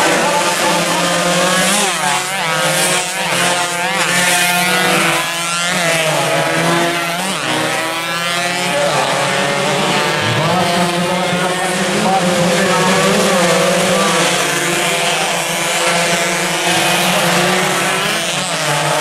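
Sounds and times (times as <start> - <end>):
race motorcycles revving hard: 0.0 - 19.0.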